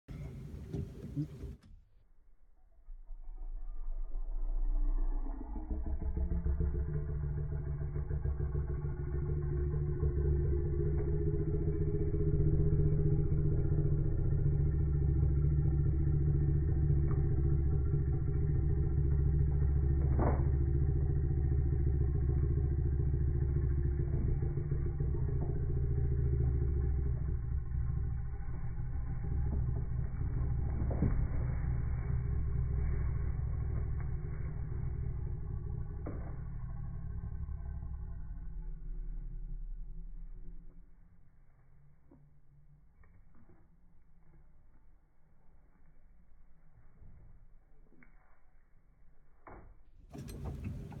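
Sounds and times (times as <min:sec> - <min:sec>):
low mechanical drone: 0:00.0 - 0:48.0, 0:50.0 - 0:51.0.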